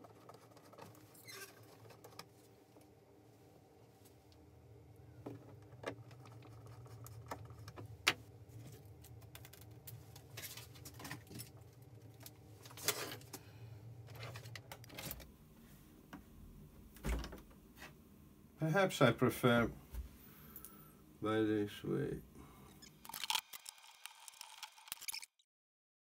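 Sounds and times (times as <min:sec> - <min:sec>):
steady low hum: 0:02.2 - 0:23.2.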